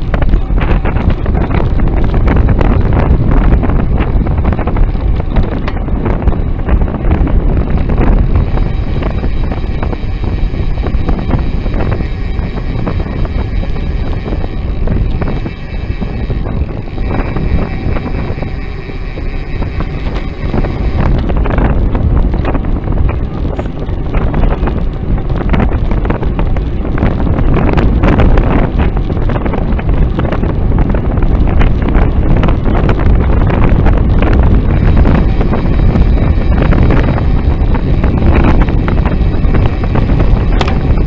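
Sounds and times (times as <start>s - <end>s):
low road rumble: 0.0s - 41.0s
wind buffeting microphone: 0.0s - 41.0s.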